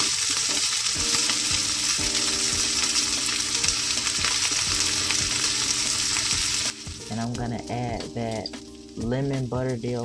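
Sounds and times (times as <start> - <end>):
vegetables sizzling in frying pan: 0.0 - 9.0.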